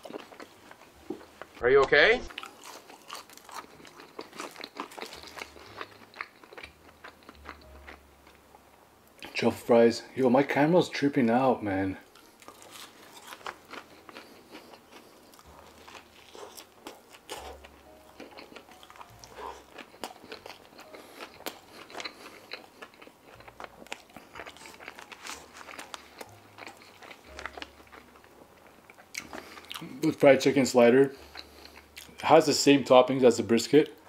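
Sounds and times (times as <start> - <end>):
person chewing crunchy food: 0.0 - 1.6, 2.3 - 8.6, 12.0 - 32.3.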